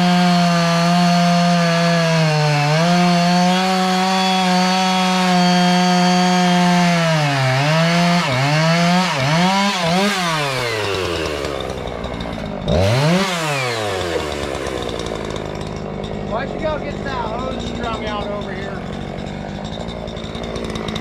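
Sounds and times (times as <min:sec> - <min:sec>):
chainsaw revving and idling: 0:00.0 - 0:21.0.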